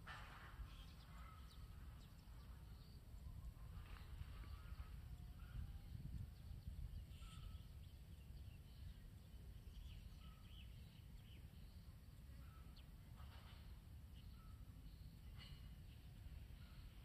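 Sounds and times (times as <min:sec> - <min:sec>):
faint wind rumble: 0:00.0 - 0:17.0
faint bird chirps: 0:00.5 - 0:17.0.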